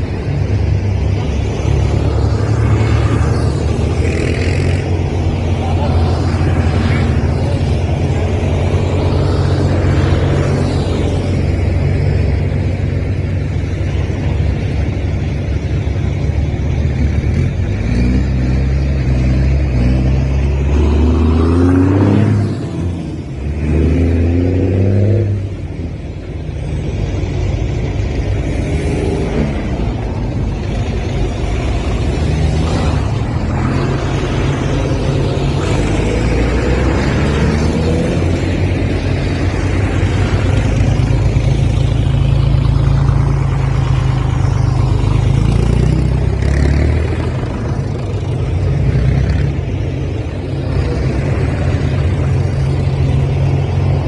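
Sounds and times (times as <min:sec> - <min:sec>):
tractor engines running: 0:00.0 - 0:54.0.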